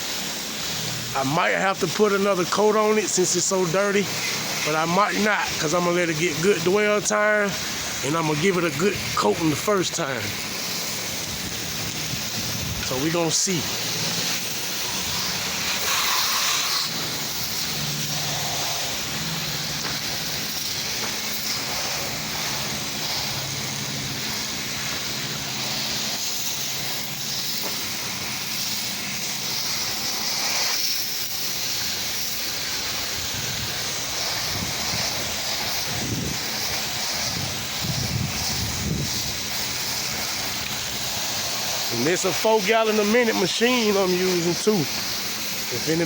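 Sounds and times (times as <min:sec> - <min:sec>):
pressure washer engine running: 0:00.0 - 0:46.0
pressure washer spray hissing: 0:00.0 - 0:46.0.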